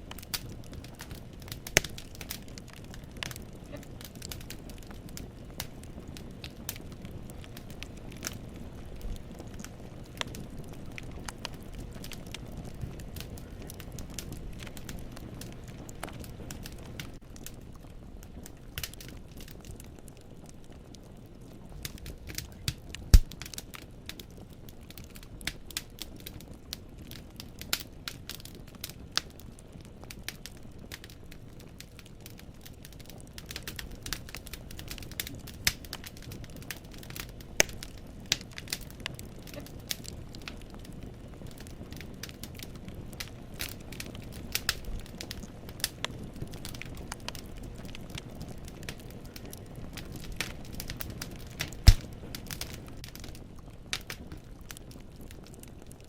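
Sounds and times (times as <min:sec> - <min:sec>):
hiss of flames: 0:00.0 - 0:31.0, 0:31.8 - 0:54.3
firewood crackling and popping: 0:00.0 - 0:56.0.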